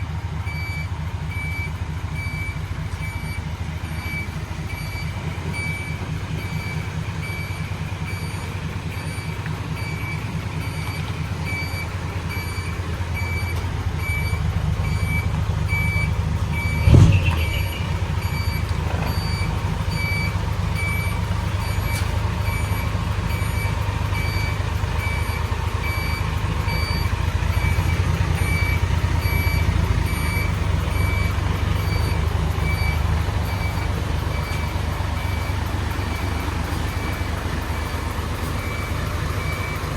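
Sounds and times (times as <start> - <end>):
truck diesel engine idling: 0.0 - 39.9
short regular beeping: 0.5 - 39.9.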